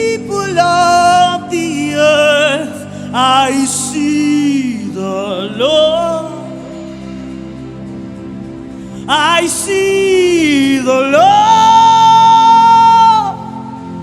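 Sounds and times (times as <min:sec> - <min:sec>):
solo voice singing: 0:00.0 - 0:06.8, 0:09.1 - 0:14.0.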